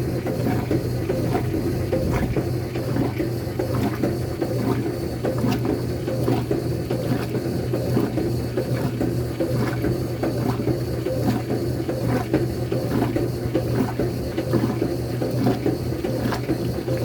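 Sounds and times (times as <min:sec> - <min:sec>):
agitator churning clatter: 0:00.0 - 0:17.0
washing machine motor hum: 0:00.0 - 0:17.0.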